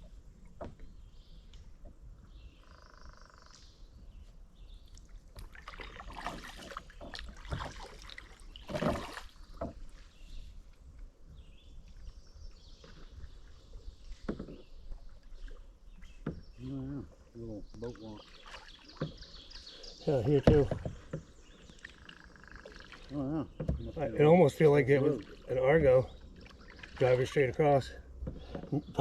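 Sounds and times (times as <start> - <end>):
kayak paddles splashing: 4.8 - 29.0.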